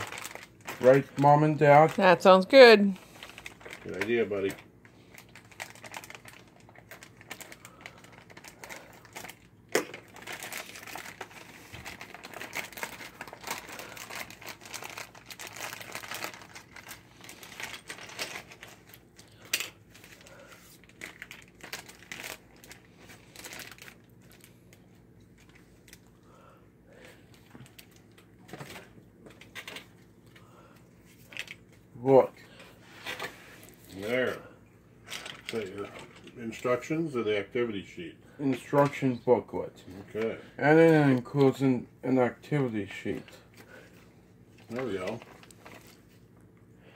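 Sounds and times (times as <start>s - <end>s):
plastic bag crinkling: 0.0s - 26.3s, 26.9s - 31.9s, 32.5s - 36.7s, 42.8s - 46.6s.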